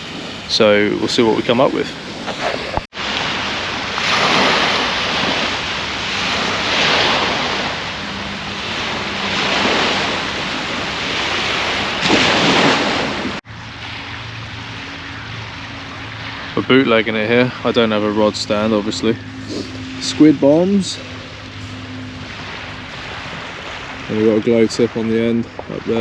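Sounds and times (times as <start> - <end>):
small waves washing on beach: 0.0 - 26.0.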